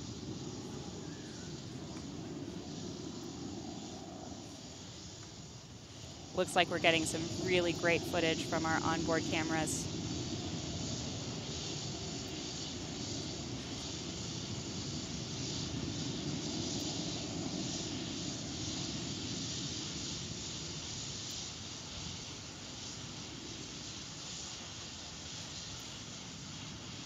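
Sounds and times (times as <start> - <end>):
distant rocket engine rumble: 0.0 - 27.0.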